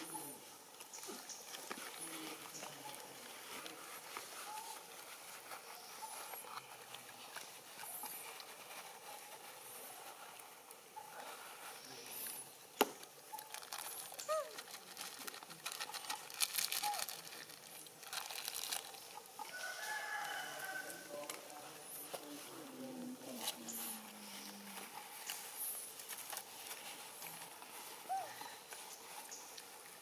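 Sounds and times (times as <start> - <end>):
rustling and crackling: 0.0 - 30.0.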